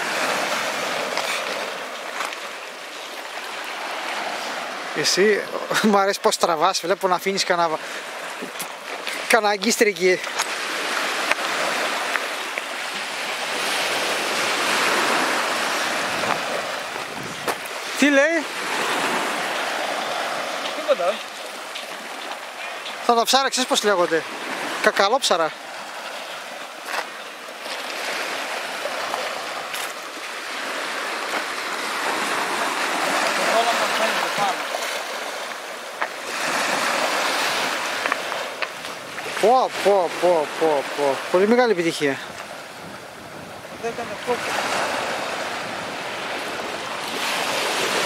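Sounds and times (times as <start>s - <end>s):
surf hissing: 0.0s - 48.0s
waves washing over pebbles: 0.0s - 48.0s.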